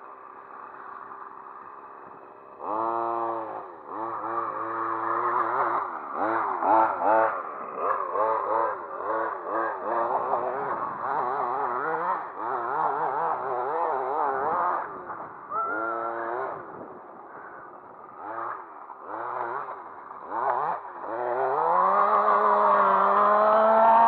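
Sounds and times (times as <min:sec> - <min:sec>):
rc car engine revving: 0:00.0 - 0:24.0.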